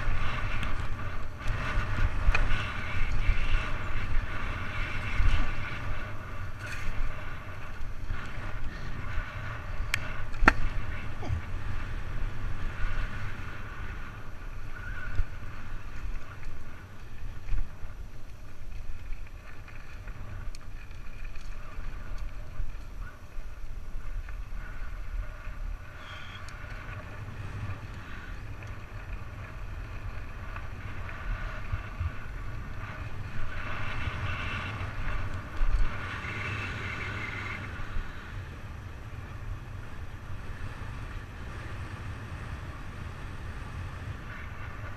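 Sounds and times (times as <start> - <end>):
wind rumble on microphone: 0.0 - 44.9.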